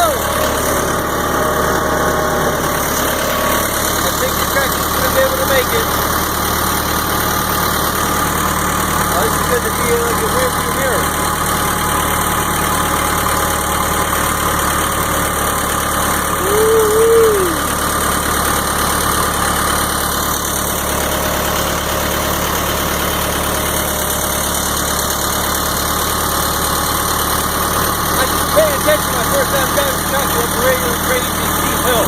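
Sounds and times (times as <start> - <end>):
tractor engine running under load: 0.0 - 32.0.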